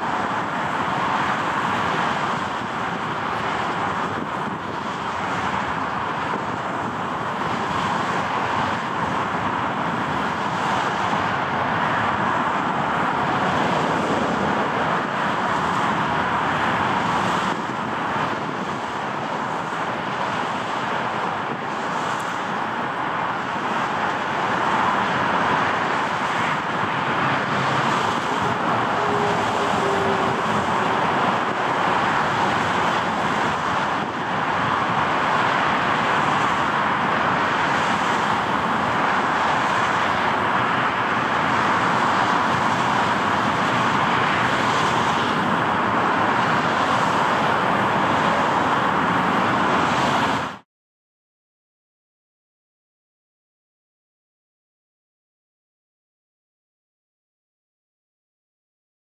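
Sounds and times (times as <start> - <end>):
distant jet engines at takeoff: 0.0 - 50.6.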